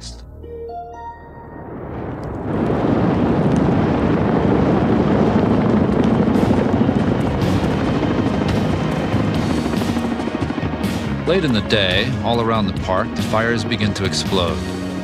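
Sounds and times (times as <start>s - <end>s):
fire flames rushing: 1.6s - 15.0s
fire crackling and popping: 1.7s - 15.0s.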